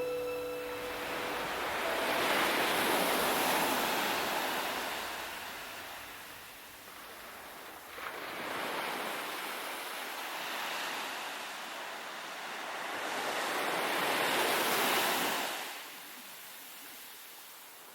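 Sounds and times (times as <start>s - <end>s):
waves breaking on shore: 0.0s - 17.9s.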